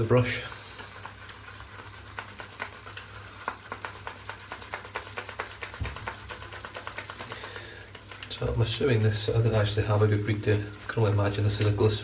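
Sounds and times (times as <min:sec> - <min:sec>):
shaving brush scrubbing soap: 0:00.0 - 0:12.0.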